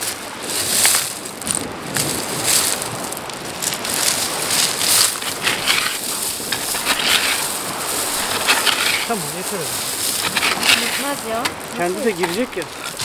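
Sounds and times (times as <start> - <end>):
stones scraping and clattering: 0.5 - 13.0.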